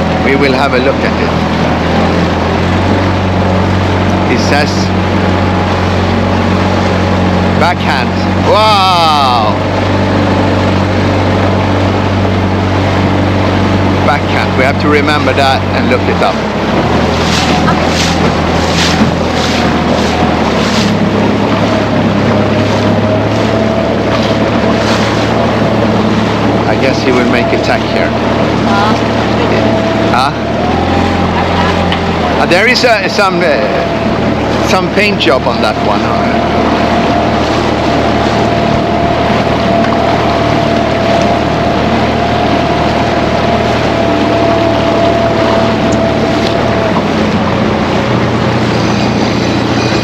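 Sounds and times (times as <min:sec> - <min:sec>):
motorboat engine running: 0:00.0 - 0:50.0
rush of wind and water: 0:00.0 - 0:50.0
thin steady whine: 0:00.0 - 0:50.0.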